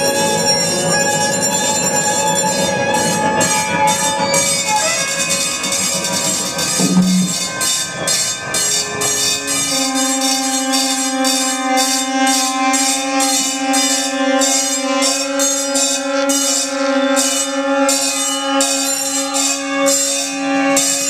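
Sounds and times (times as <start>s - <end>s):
held note with overtones: 0.0s - 21.0s.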